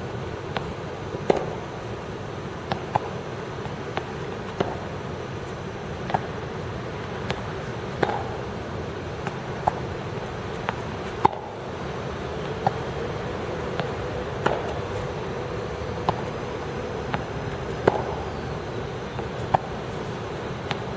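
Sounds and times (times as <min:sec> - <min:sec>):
steady background hum: 0:00.0 - 0:20.9
tennis balls bouncing on court: 0:00.5 - 0:01.6, 0:02.6 - 0:20.9
tennis balls struck by rackets: 0:00.5 - 0:01.6, 0:02.6 - 0:20.9.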